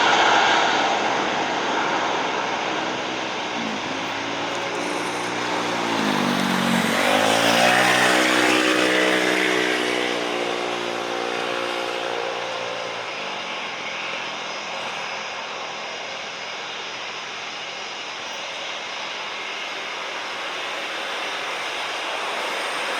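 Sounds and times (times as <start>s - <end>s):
jet engines roaring: 0.0s - 22.9s.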